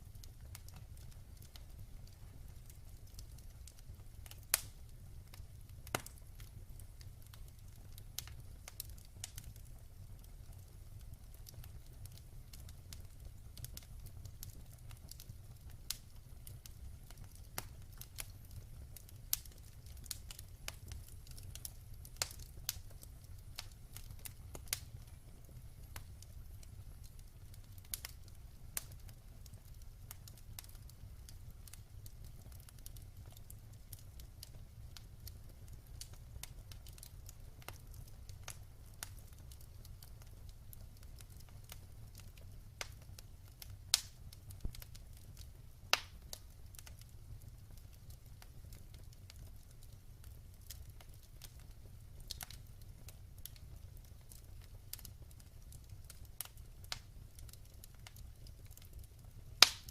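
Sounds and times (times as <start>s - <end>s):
low fire rumble: 0.0s - 59.9s
wood fire crackling: 0.0s - 59.9s.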